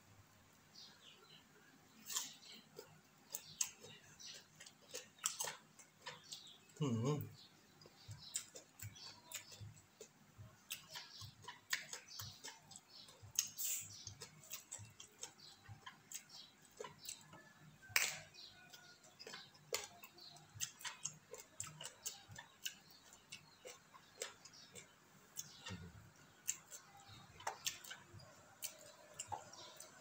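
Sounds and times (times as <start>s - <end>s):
chewing and lip-smacking: 2.0s - 30.0s.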